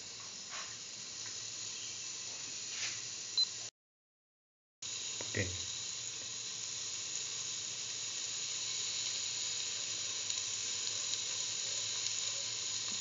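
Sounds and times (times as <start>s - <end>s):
vegetables sizzling in oil: 0.0s - 3.7s, 4.8s - 13.0s.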